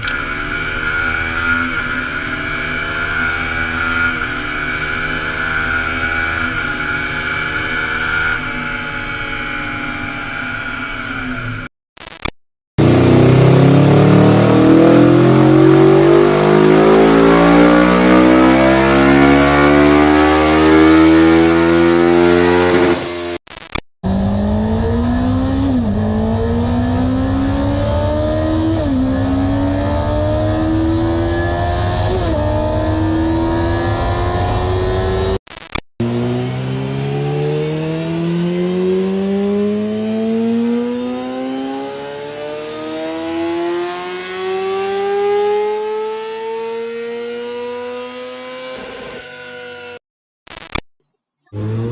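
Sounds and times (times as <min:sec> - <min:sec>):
motorcycle accelerating hard: 0:00.0 - 0:11.6, 0:12.8 - 0:23.4, 0:24.0 - 0:35.4, 0:36.0 - 0:50.0, 0:51.5 - 0:51.9.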